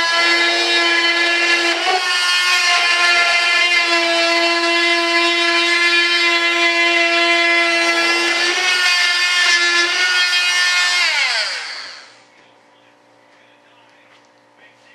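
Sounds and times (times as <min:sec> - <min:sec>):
electric cutter whining: 0:00.0 - 0:12.3.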